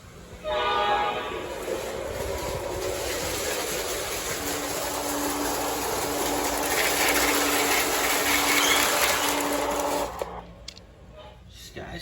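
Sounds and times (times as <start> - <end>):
model train whirring on track: 0.0 - 11.1.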